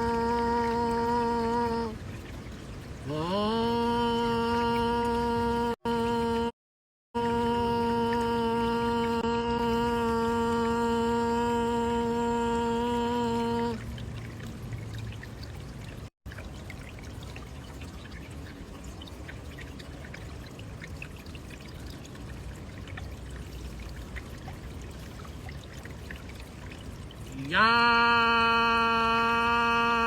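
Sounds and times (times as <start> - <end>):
running water trickling: 0.0 - 6.5, 7.2 - 30.0.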